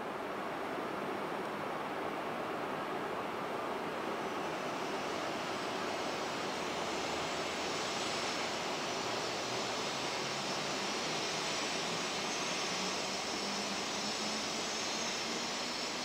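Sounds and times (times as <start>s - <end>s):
train motor and wheel rush: 0.0s - 16.0s.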